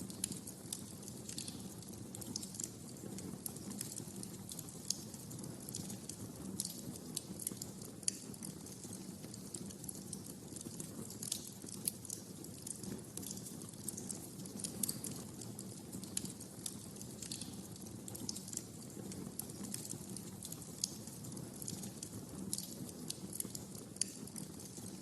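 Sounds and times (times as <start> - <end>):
low rumble of flames: 0.0 - 25.0
wood fire crackling and popping: 0.0 - 25.0.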